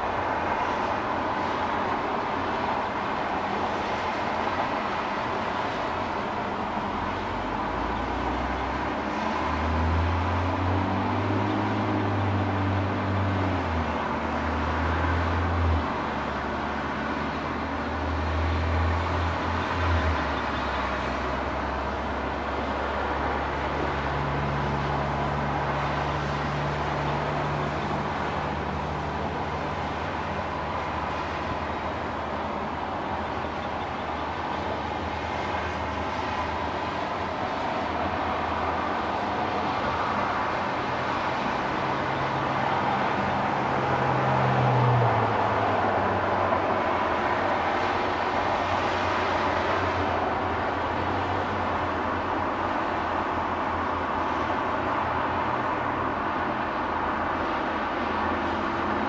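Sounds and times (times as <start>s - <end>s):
distant road traffic: 0.0s - 59.0s
heavy vehicle engine drone: 0.0s - 59.0s.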